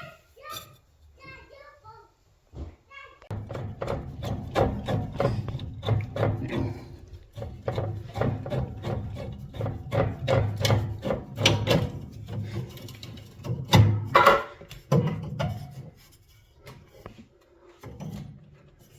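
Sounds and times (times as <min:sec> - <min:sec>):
hard objects knocking and scraping: 0:02.6 - 0:18.9.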